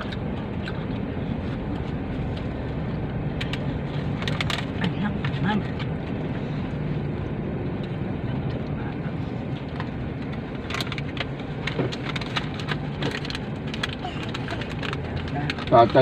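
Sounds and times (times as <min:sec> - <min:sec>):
low hum inside car: 0:00.0 - 0:16.0.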